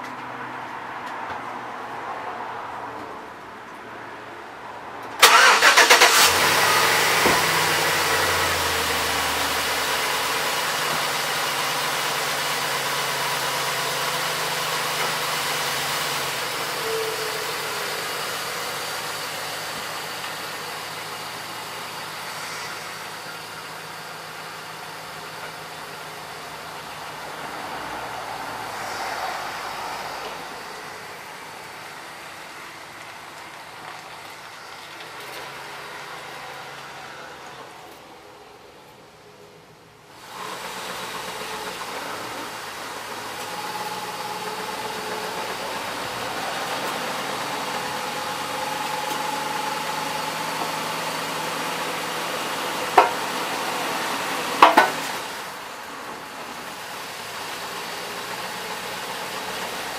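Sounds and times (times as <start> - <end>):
truck engine starting and idling: 4.5 - 59.9.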